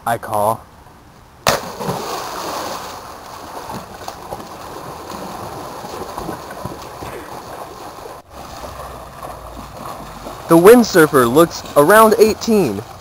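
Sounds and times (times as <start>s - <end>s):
pool water splashing: 1.4s - 13.0s.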